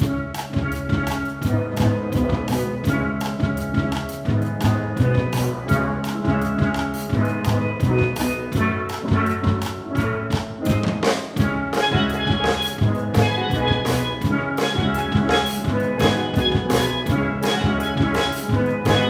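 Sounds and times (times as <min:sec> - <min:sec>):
drum kit beat: 0:00.0 - 0:19.0
steel drum ensemble playing: 0:00.0 - 0:19.0.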